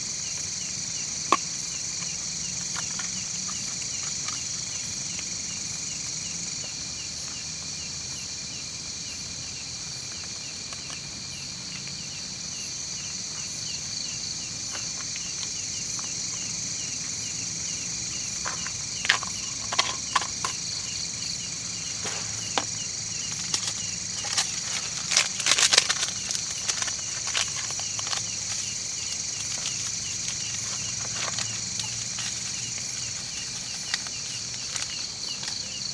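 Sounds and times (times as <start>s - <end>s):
cricket chirping: 0.0s - 35.9s
night insects chorus: 0.0s - 35.9s.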